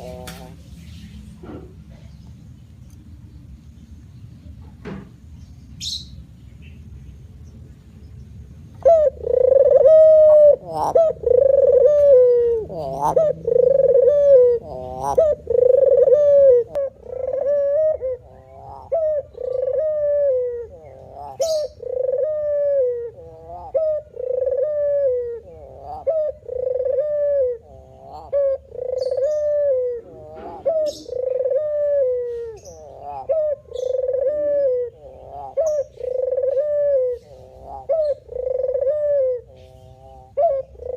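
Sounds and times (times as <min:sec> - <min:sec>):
dove cooing: 0:00.0 - 0:00.7, 0:08.8 - 0:40.9.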